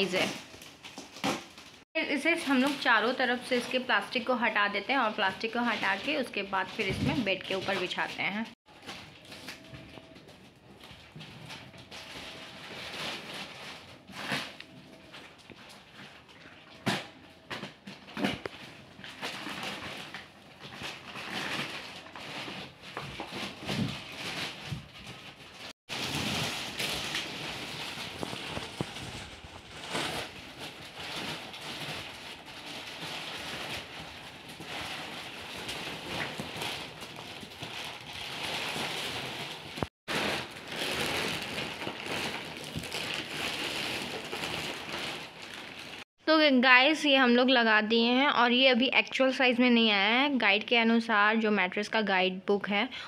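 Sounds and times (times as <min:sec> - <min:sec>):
plastic wrapping crinkling: 0:00.0 - 0:46.1.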